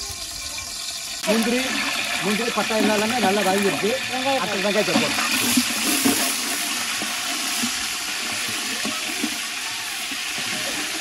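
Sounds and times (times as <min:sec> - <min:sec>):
onions frying in oil: 0:00.0 - 0:11.0
ladle stirring in pot: 0:00.7 - 0:11.0.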